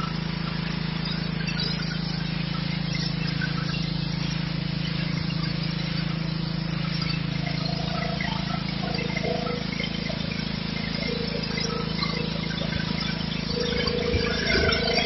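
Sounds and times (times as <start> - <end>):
pressure washer engine drone: 0.0 - 15.0.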